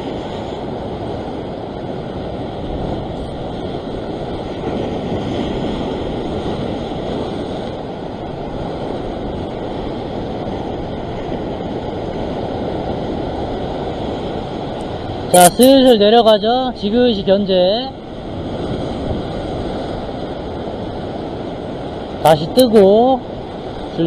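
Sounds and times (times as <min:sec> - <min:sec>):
ocean surf over rocks: 0:00.0 - 0:24.0.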